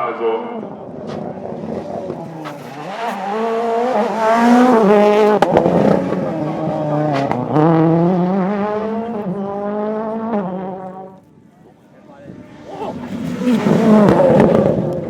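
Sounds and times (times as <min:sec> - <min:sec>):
rally car engine revving: 0:00.0 - 0:11.2, 0:12.3 - 0:15.0.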